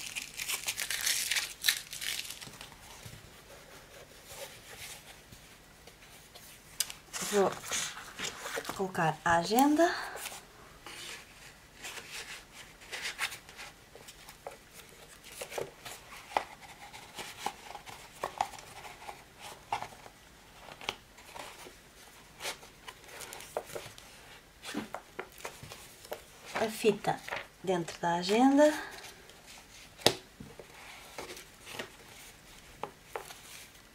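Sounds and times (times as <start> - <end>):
paper pages rustling: 0.0 - 33.9.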